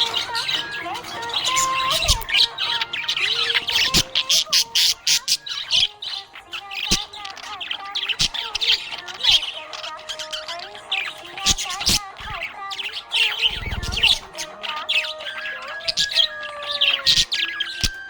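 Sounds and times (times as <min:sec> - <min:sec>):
budgerigar chirping and chattering: 0:00.0 - 0:18.0
quiet background melody: 0:00.0 - 0:18.0.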